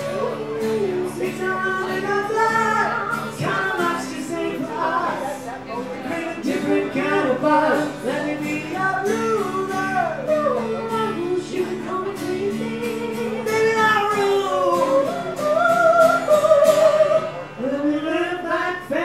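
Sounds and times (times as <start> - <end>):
man and woman singing: 0.0 - 19.0
strummed acoustic guitars: 0.0 - 19.0.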